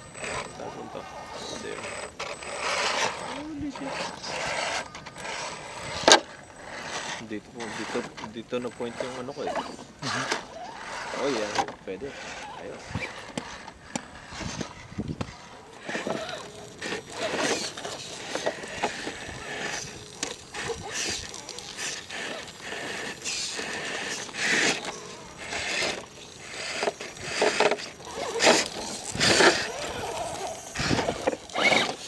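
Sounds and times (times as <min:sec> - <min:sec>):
small electric motor whirring: 0:00.0 - 0:32.0
tyres scraping on stone: 0:00.0 - 0:32.0.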